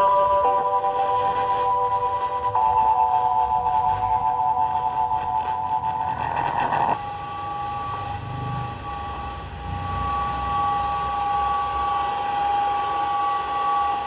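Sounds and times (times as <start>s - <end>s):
two-tone whistle: 0.0s - 14.0s.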